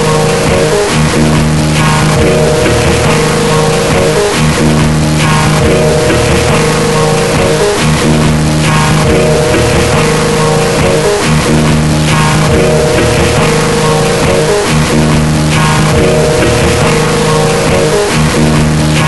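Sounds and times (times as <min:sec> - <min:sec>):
guitar and bass chords: 0:00.0 - 0:19.0.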